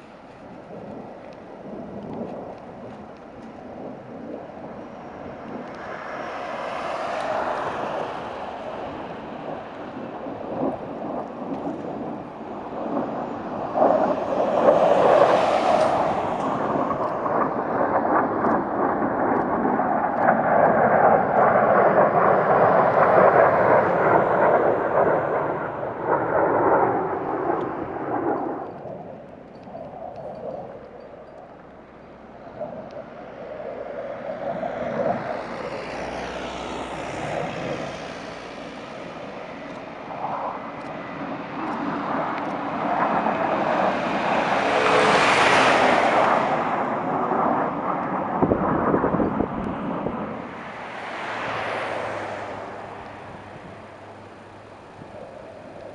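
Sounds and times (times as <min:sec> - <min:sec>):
jet engines flying past: 0:00.0 - 0:55.9.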